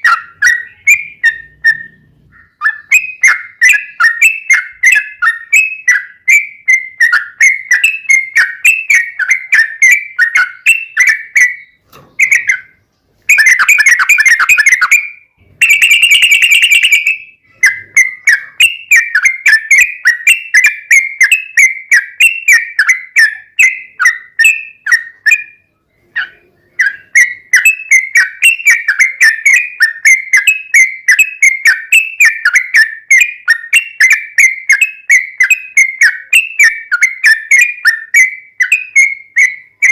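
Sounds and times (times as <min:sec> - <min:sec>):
bulbul singing whistled notes: 0:00.0 - 0:39.9.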